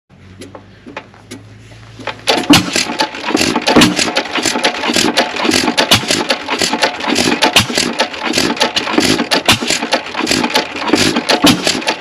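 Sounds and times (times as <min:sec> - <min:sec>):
engine clattering: 0:00.3 - 0:12.0.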